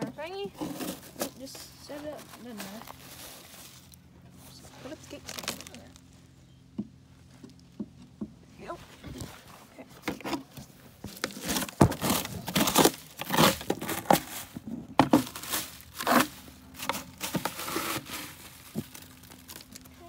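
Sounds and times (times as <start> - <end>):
plastic scoop scraping wood shavings: 0.1 - 6.0, 8.7 - 19.9.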